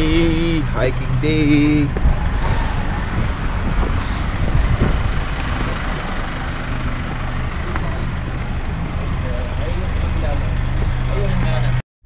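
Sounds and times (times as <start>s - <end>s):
engine running: 0.0s - 11.8s
road noise: 0.0s - 11.8s.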